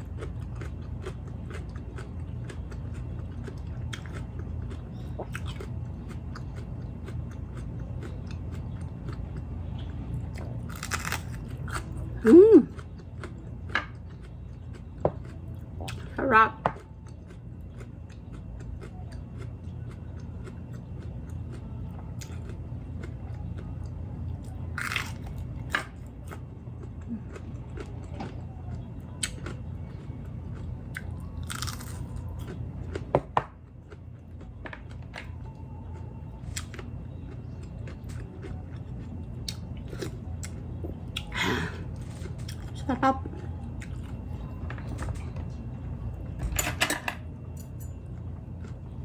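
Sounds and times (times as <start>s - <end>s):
crunchy chewing and biting: 0.0s - 16.1s, 16.8s - 45.3s
steady low hum: 0.0s - 49.0s.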